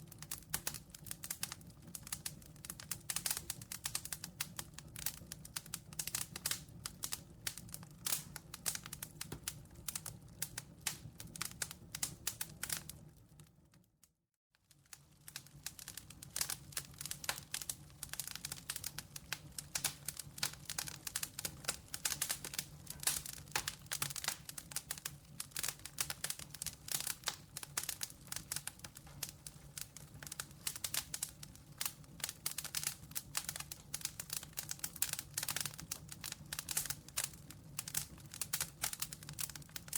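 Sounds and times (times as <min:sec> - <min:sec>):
campfire crackling and popping: 0:00.0 - 0:13.5, 0:14.7 - 0:39.9.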